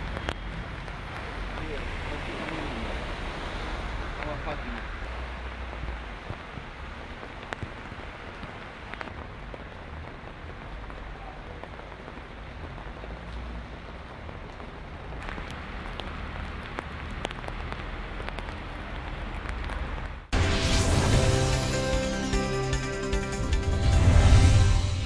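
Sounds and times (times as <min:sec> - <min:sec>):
raindrops ticking: 0:00.0 - 0:20.3
heavy rain on wet street: 0:00.0 - 0:25.0.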